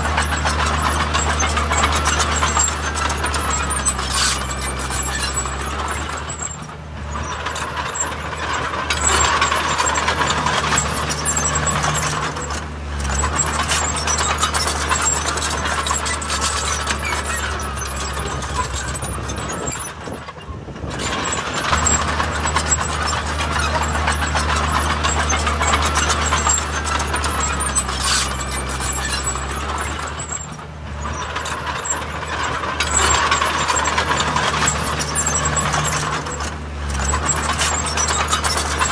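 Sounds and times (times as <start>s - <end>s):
diesel earthmoving machine engine: 0.0s - 38.9s
rattling noise: 0.0s - 38.9s.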